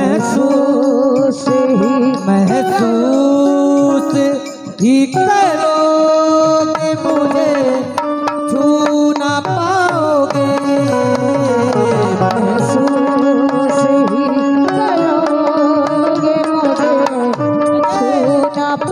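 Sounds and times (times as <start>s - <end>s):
hand drum rhythm: 0.0s - 18.9s
harmonium chords: 0.0s - 18.9s.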